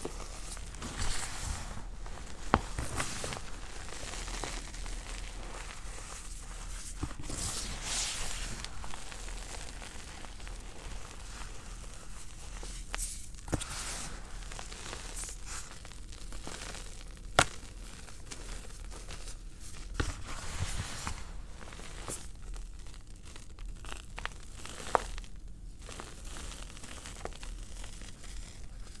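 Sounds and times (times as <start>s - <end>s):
powder crunching underfoot: 0.0s - 29.0s.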